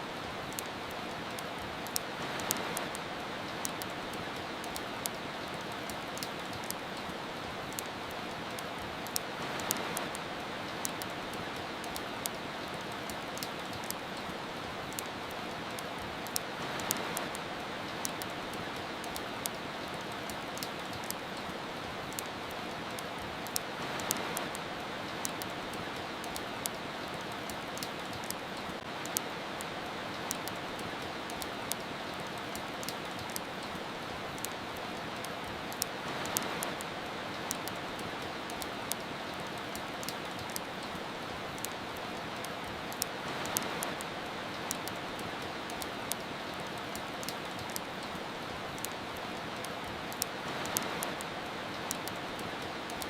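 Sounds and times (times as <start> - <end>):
steady rain hiss: 0.0 - 53.0
wood fire crackling: 0.0 - 53.0.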